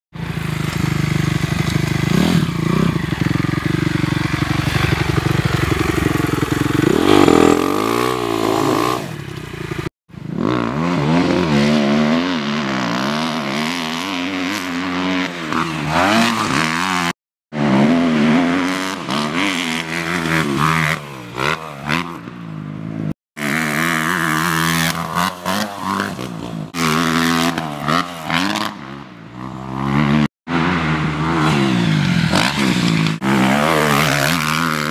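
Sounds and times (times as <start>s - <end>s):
dirt bike engines revving: 0.2s - 34.9s.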